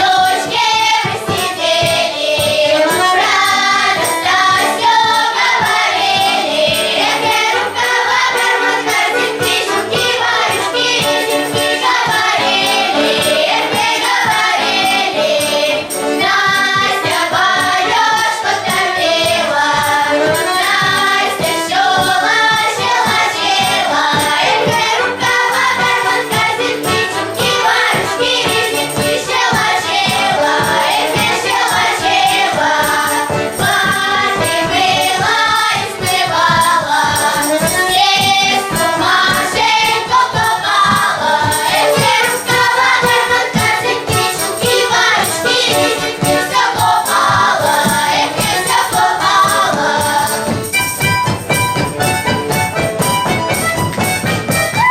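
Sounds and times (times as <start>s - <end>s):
choir singing: 0.0s - 50.6s
jingling percussion beat: 0.0s - 54.9s
musical accompaniment: 0.0s - 54.9s.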